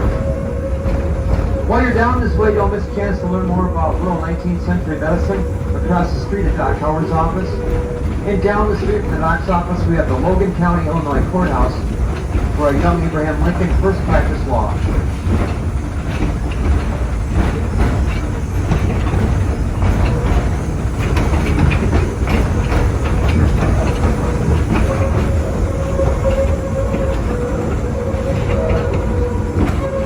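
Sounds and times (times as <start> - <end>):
train rumble: 0.0 - 30.0
wheels clicking on rail joints: 0.0 - 30.0.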